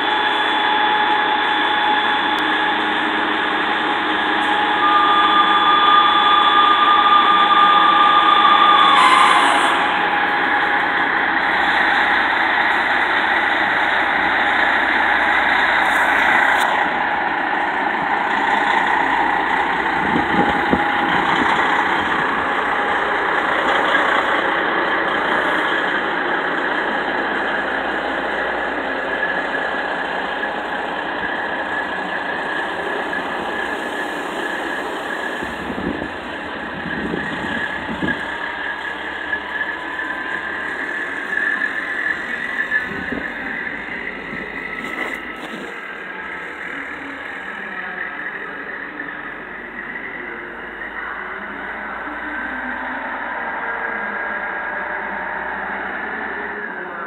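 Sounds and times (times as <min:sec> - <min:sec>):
steady high whine: 0:00.0 - 0:57.0
truck diesel engine running: 0:00.0 - 0:57.0.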